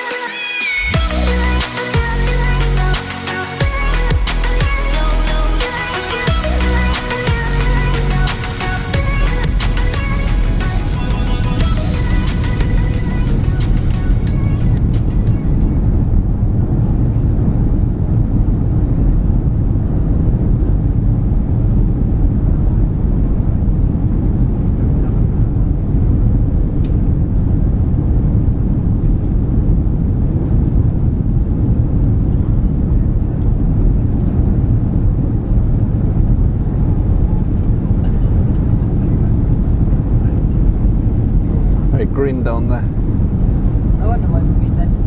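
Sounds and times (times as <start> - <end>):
airliner cabin rumble: 0.8 - 45.0.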